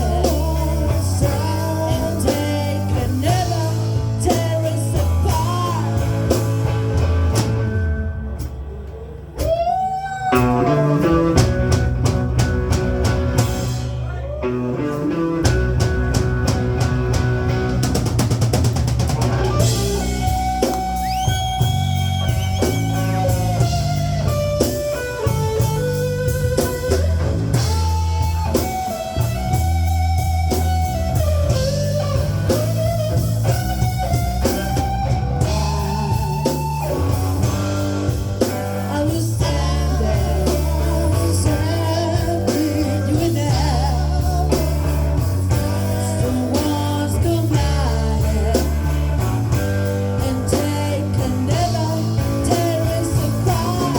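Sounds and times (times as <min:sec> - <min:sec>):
bass guitar: 0:00.0 - 0:53.9
drum kit: 0:00.0 - 0:53.9
lead guitar with bent notes: 0:00.0 - 0:53.9.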